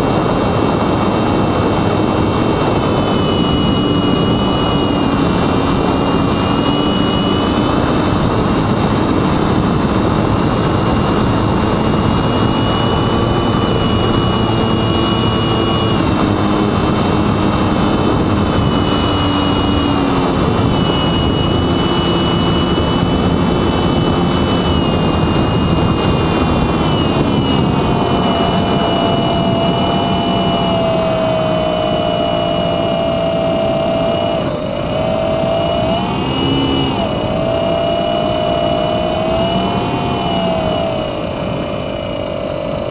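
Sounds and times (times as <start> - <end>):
electric motor whine: 0.0 - 42.9.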